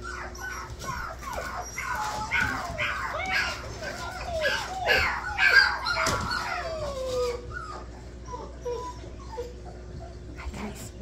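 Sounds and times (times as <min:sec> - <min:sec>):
puppies whining and yipping: 0:00.0 - 0:10.4.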